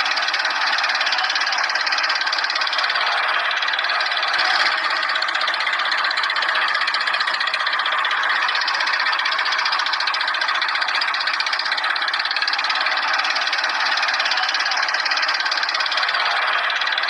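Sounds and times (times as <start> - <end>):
toy motor rattling buzz: 0.0 - 17.0.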